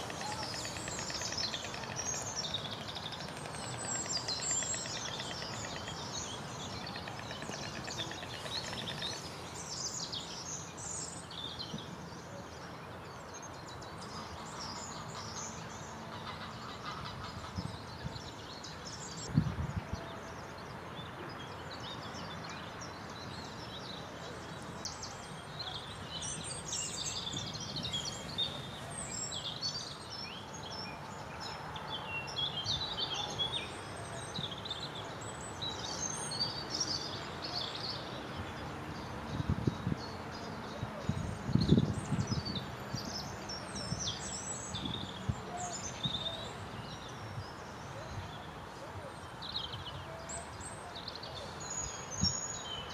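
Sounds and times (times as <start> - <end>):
outdoor background hiss: 0.0 - 52.9
songbirds chirping: 0.0 - 52.9.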